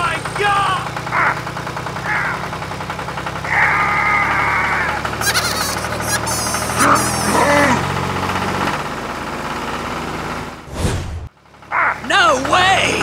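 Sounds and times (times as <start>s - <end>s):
tractor engine idling: 0.0s - 10.7s, 11.3s - 13.0s.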